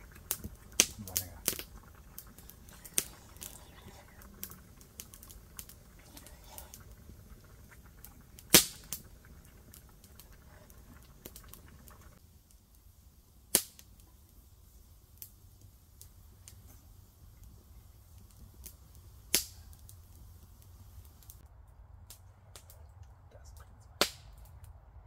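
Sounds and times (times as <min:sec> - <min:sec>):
sharp pops of fire: 0:00.0 - 0:22.8, 0:24.0 - 0:24.8
wood fire crackling: 0:00.0 - 0:24.9.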